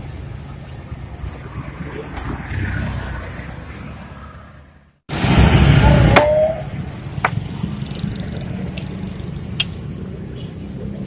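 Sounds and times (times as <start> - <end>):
street noise with low rumble: 0.0 - 11.0.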